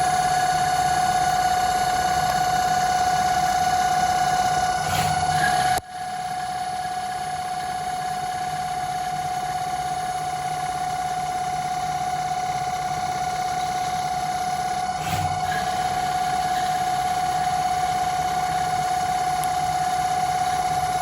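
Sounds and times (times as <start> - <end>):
lathe high whine: 0.0 - 21.0
motor hum: 0.0 - 21.0.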